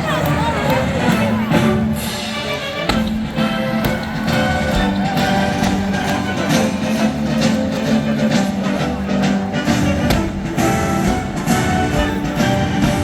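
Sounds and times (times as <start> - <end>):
loud music with held notes: 0.0 - 13.0.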